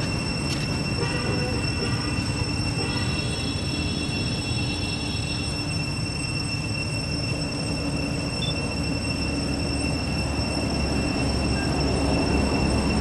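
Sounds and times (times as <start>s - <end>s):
high-pitched whines: 0.0s - 13.0s.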